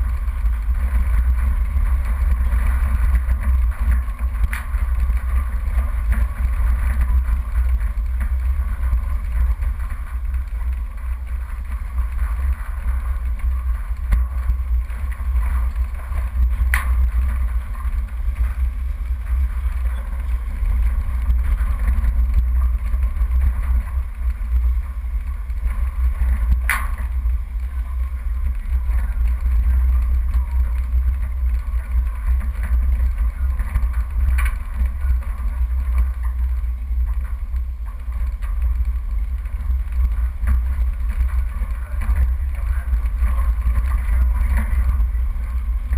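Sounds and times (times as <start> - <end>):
off-road vehicle engine rumble: 0.0 - 45.9.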